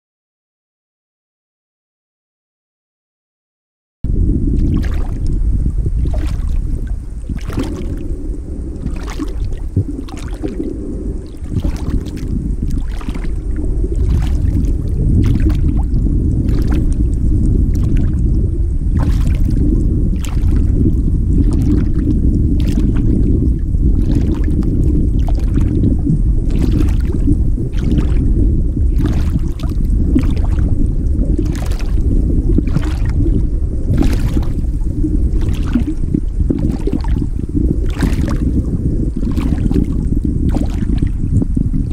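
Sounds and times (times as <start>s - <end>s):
low rumble of moving water: 4.0s - 41.9s.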